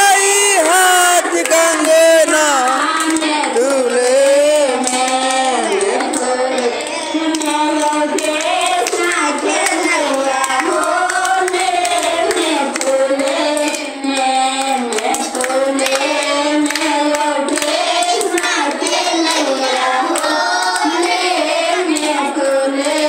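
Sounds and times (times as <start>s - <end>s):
children clapping in rhythm: 0.0s - 23.0s
voices singing along: 0.0s - 23.0s
woman singing a chant: 0.0s - 23.0s.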